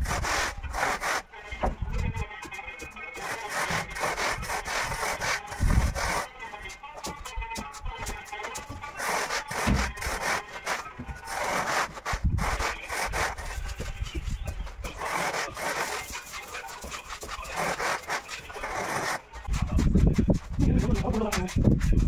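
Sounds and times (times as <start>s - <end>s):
hand tool scraping wet screed: 0.0s - 1.3s, 2.8s - 6.4s, 8.0s - 22.0s.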